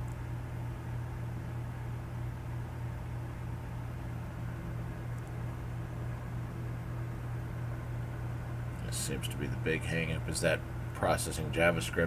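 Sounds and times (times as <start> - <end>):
computer equipment fan hum: 0.0 - 12.0.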